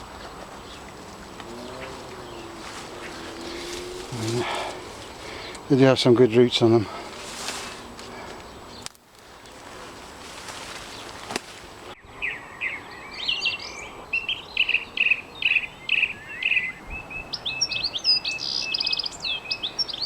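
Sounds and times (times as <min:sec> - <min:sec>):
outdoor background noise: 0:00.0 - 0:20.0
songbird chirping and trilling: 0:00.0 - 0:20.0.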